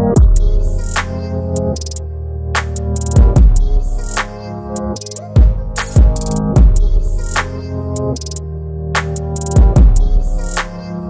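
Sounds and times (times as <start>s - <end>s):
drum machine beat: 0.2s - 2.0s, 2.6s - 8.4s, 9.0s - 10.8s.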